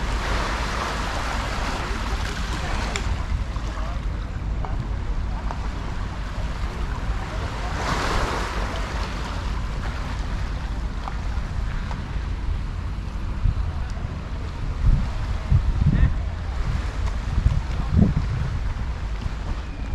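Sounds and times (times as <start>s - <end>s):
sea waves washing onto beach: 0.0s - 19.9s
wind rumble on microphone: 0.0s - 19.9s.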